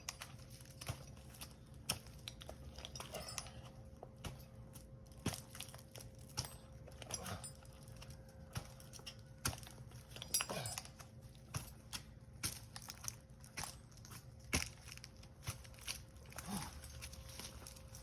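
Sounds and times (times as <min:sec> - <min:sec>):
climbing gear clinking: 0:00.0 - 0:18.0.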